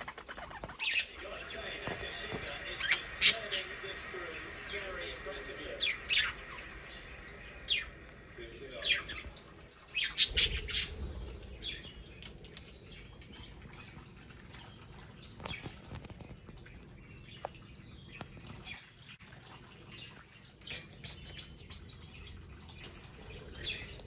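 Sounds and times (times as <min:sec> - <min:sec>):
budgerigars chirping and squawking: 0:00.0 - 0:19.0, 0:20.6 - 0:24.0.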